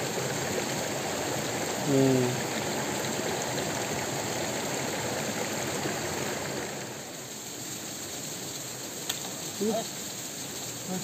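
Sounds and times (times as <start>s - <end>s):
stream flowing over stones: 0.0s - 11.0s.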